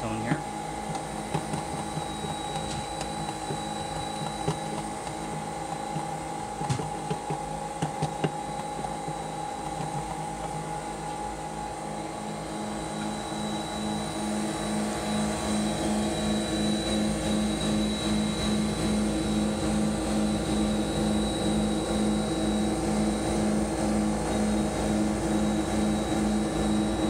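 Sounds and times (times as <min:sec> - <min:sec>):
vacuum pump pulsing hum: 0:00.0 - 0:27.0.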